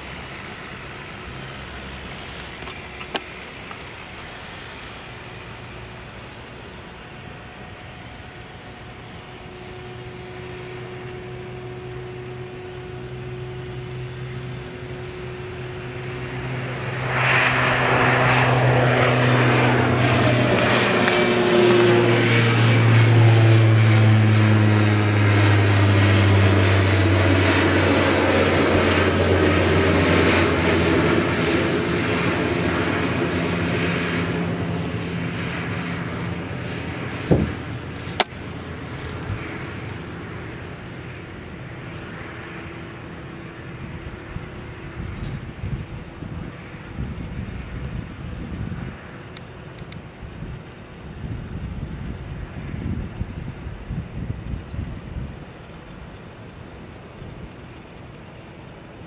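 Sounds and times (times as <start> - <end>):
turboprop aircraft taking off: 0.0 - 59.0.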